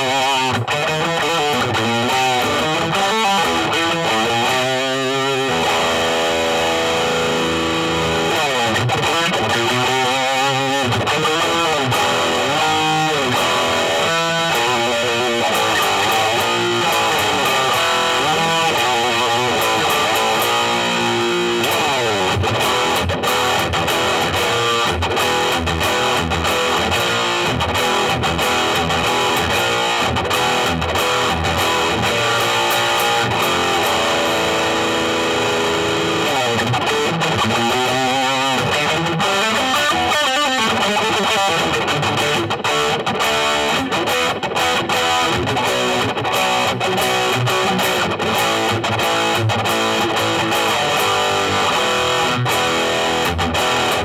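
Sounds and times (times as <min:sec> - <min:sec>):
distorted electric guitar lead: 0:00.0 - 0:54.0.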